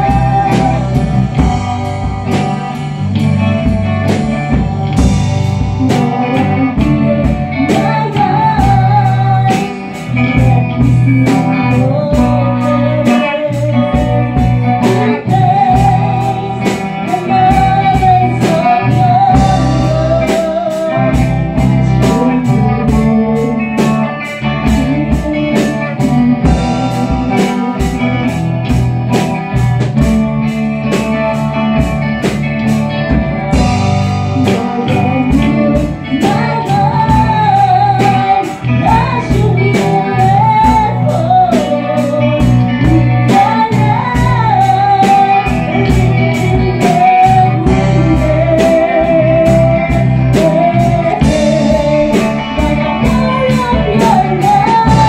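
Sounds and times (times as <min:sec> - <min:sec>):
woman singing melody: 0:00.0 - 0:03.6, 0:05.7 - 0:29.3, 0:33.5 - 0:55.0
electric guitar: 0:00.0 - 0:55.0
keyboard: 0:00.0 - 0:55.0
steady drum beat: 0:00.0 - 0:55.0.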